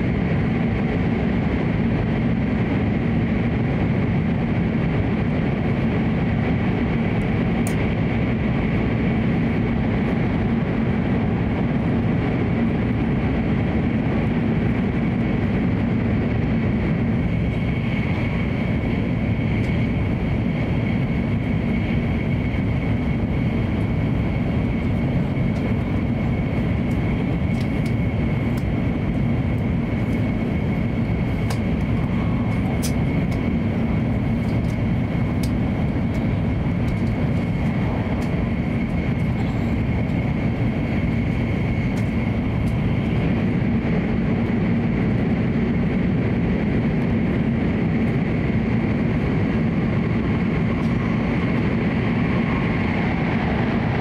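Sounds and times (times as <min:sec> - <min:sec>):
thin steady whine: 0:00.0 - 0:54.0
train running noise inside cabin: 0:00.0 - 0:54.0.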